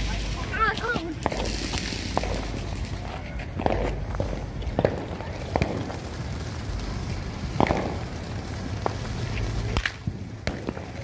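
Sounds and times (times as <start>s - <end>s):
firecrackers popping: 0.0s - 11.0s.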